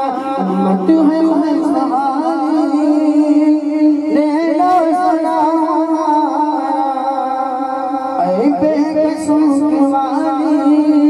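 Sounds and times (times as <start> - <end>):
man chanting through loudspeaker: 0.0 - 11.0.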